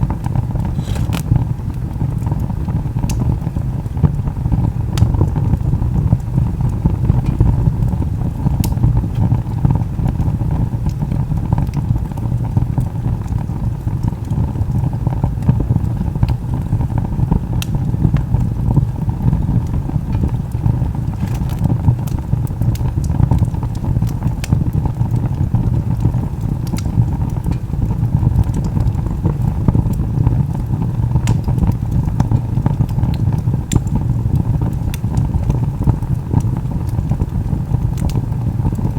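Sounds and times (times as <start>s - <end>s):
burning wood crackling and popping: 0.0s - 38.9s
fire burning with low rumble: 0.0s - 38.9s.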